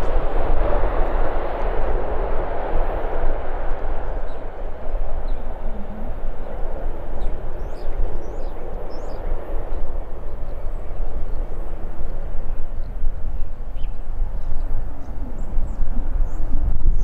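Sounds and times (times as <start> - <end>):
jet engines roaring: 0.0 - 17.0
low rumble: 0.0 - 17.0.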